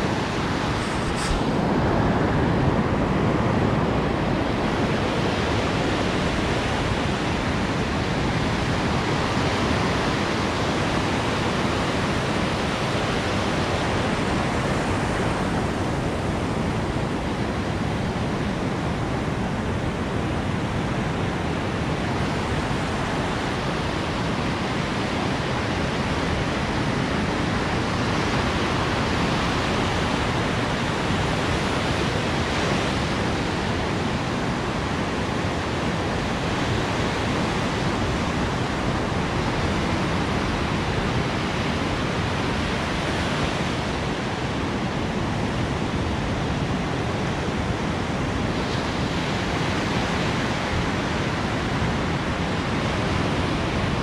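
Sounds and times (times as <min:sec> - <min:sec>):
waves crashing on beach: 0:00.0 - 0:54.0.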